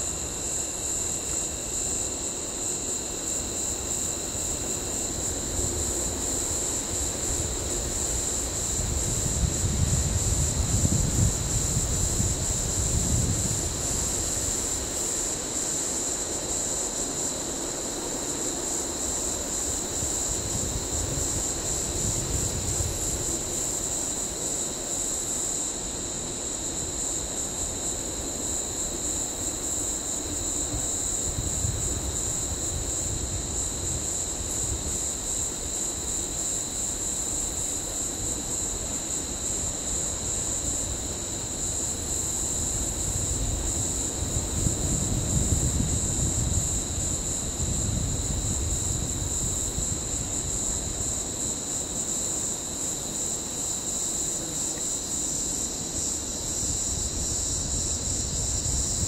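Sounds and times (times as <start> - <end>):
insects trilling: 0.0 - 59.0
low insect whine: 0.0 - 59.0.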